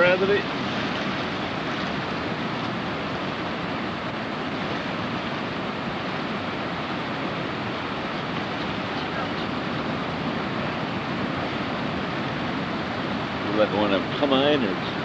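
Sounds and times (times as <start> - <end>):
ocean surf rushing: 0.0 - 15.0
wind: 0.0 - 15.0.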